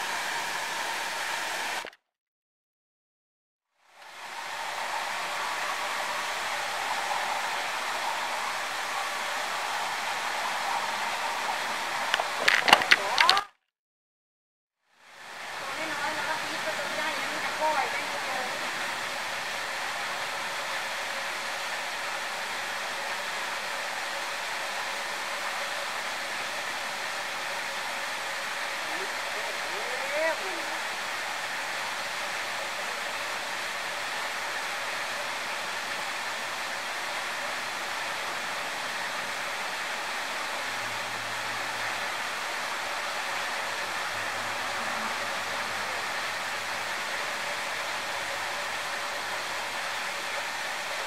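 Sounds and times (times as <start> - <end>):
stream water rushing: 0.0 - 1.9, 3.9 - 13.4, 15.0 - 51.0.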